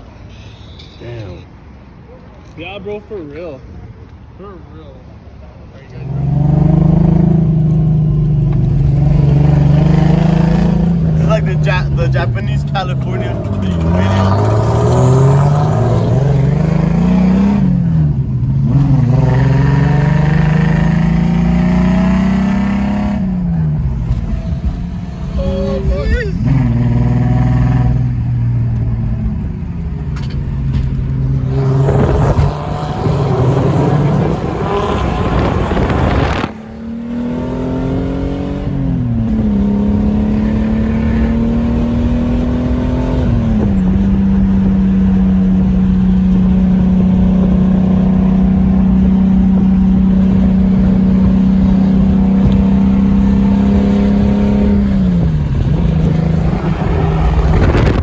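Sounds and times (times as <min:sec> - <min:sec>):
car engine revving: 0:05.8 - 0:58.0.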